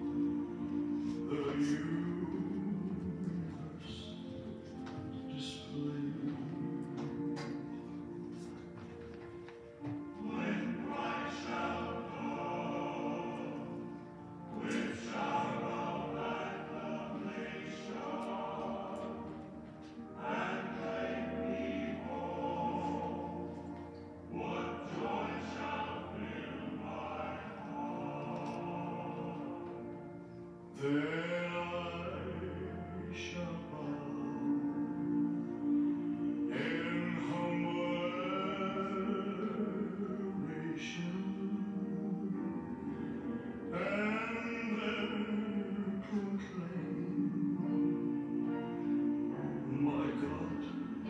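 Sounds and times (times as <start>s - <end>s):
song with singing: 0.0s - 51.0s.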